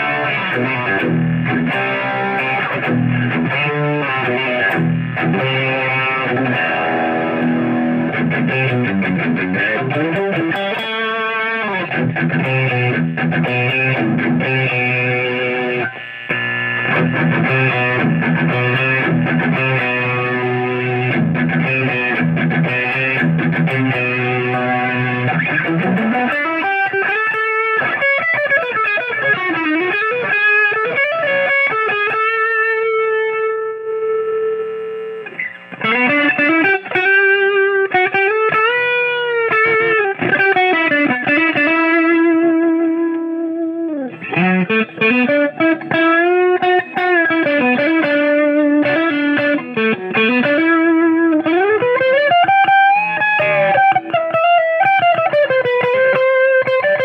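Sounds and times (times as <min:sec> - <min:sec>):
electric guitar through an amp: 0:00.0 - 0:57.0.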